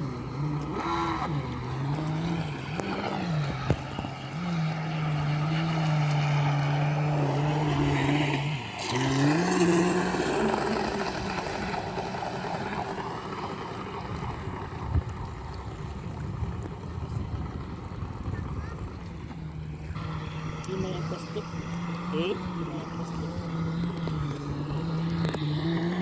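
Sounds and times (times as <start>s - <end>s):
model boat motor humming: 0.0s - 26.0s
water noise: 0.0s - 26.0s
wind: 0.0s - 26.0s.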